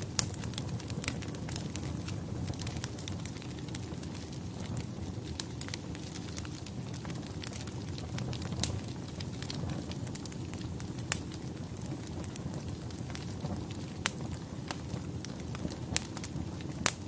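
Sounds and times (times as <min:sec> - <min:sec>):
fire crackling: 0:00.0 - 0:17.0
sharp pops of fire: 0:00.0 - 0:17.0.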